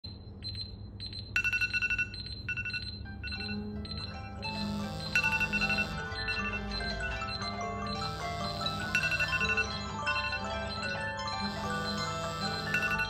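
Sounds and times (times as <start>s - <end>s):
melodic alarm ringtones: 0.4s - 13.0s
high electronic beeping: 0.5s - 13.0s.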